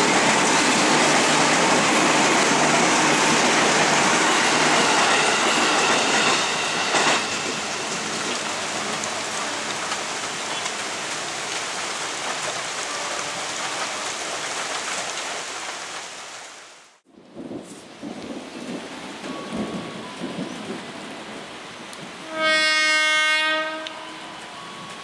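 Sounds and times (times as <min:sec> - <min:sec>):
electric train running past: 0:00.0 - 0:15.0, 0:19.2 - 0:25.0
heavy rain hiss: 0:00.0 - 0:25.0.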